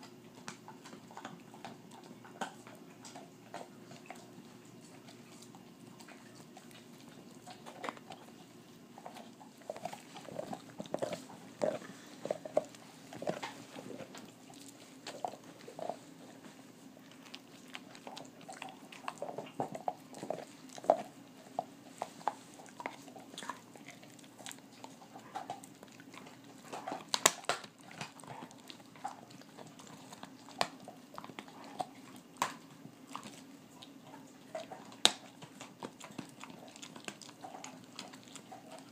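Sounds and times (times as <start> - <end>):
dogs crunching a bone: 0.0 - 38.9
wet chewing and licking: 0.0 - 38.9.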